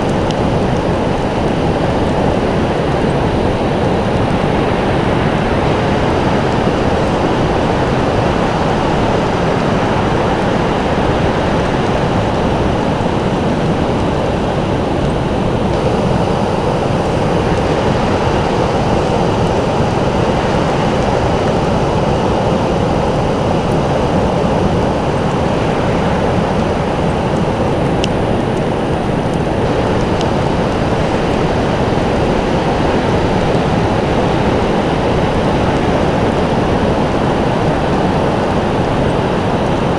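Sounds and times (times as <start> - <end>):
roar of rushing water: 0.0 - 39.9.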